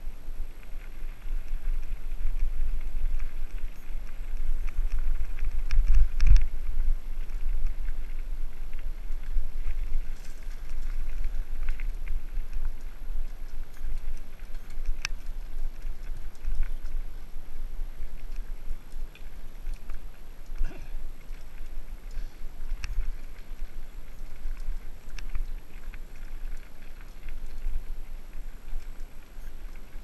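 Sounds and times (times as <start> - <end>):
bike rattling: 0.0 - 30.0
wind rumble on microphone: 0.0 - 30.0.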